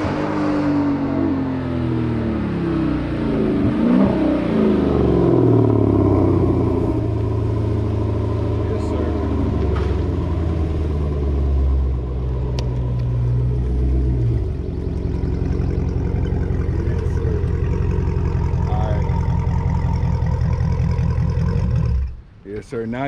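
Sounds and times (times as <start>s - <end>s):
deep car exhaust note: 0.0s - 22.3s.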